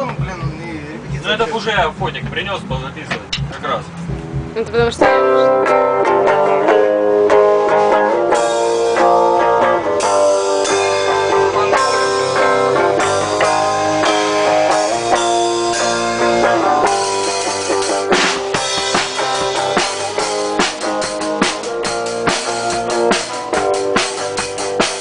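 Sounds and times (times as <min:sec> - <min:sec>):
drum hits: 0:00.0 - 0:25.0
guitar chords ringing: 0:00.0 - 0:25.0.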